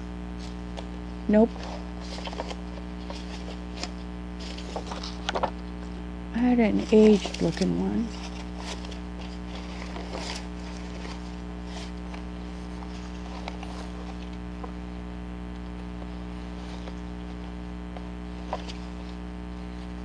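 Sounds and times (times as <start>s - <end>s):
steady low hum: 0.0s - 20.0s
papers rustling and tapping: 0.4s - 6.0s, 6.7s - 14.9s, 15.5s - 20.0s.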